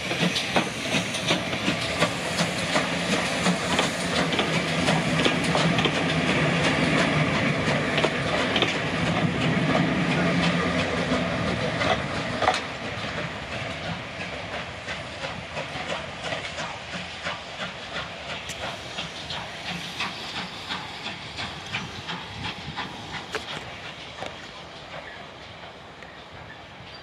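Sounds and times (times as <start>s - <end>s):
steam hiss: 0.0s - 27.0s
steam train clattering over track: 0.0s - 27.0s.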